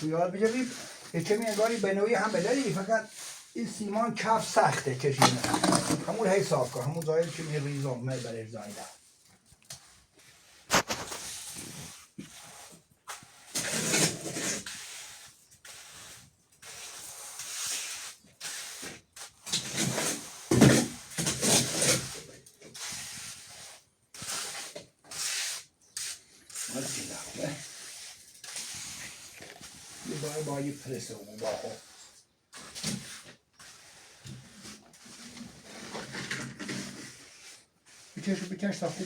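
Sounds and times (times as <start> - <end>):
hand tool scraping wet mortar: 0.0 - 39.0.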